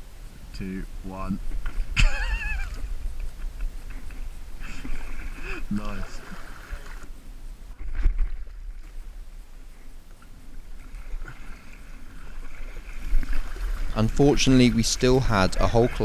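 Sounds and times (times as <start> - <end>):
kayak paddling in water: 1.4 - 16.0.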